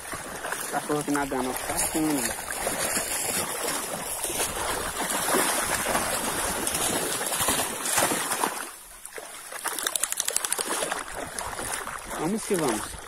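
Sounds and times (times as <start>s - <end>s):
dog wading through splashing water: 0.0s - 13.0s.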